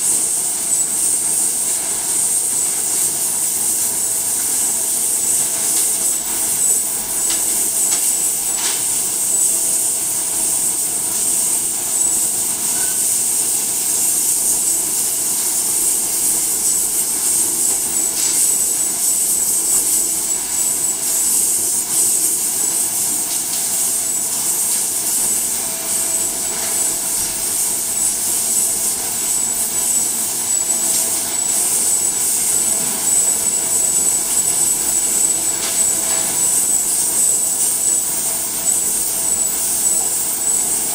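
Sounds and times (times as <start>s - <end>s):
machinery hiss and hum: 0.0s - 40.9s.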